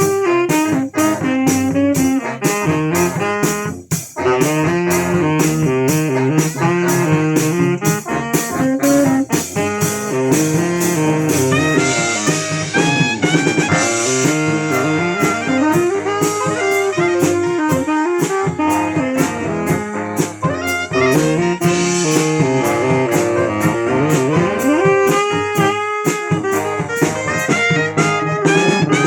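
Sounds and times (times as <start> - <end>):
brass band playing: 0.0 - 29.0
drum kit beat: 0.0 - 29.0
horn line with rising slides: 0.0 - 29.0.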